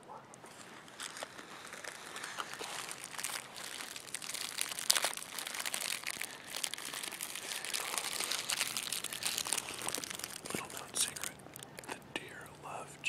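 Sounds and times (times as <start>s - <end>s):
plastic wrapper crinkling: 0.4s - 12.1s.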